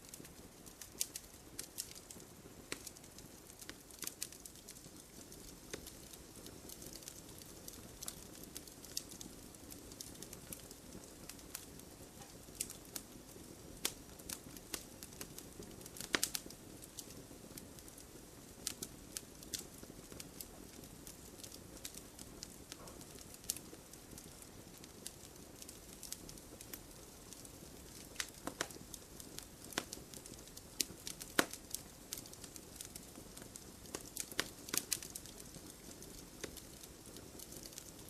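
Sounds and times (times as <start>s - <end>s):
campfire crackling: 0.0s - 38.0s.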